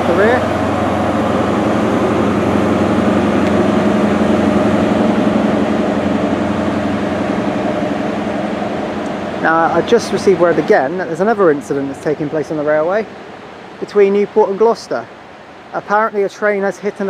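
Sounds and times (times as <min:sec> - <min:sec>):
diesel train engine running: 0:00.0 - 0:17.0.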